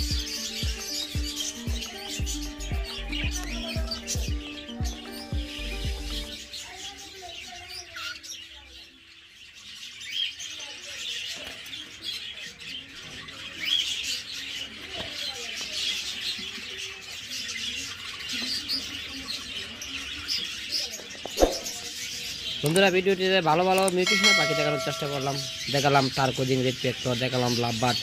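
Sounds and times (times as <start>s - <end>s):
budgerigars chattering: 0.0s - 28.0s.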